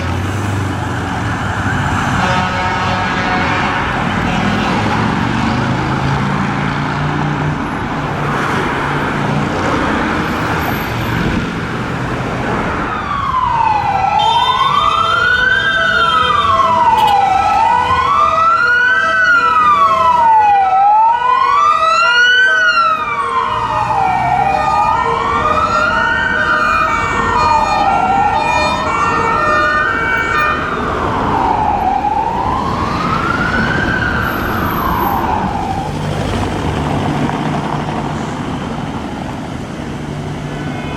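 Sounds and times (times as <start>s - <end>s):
ambulance wail siren: 0.0s - 40.9s
traffic engine noise: 0.0s - 40.9s.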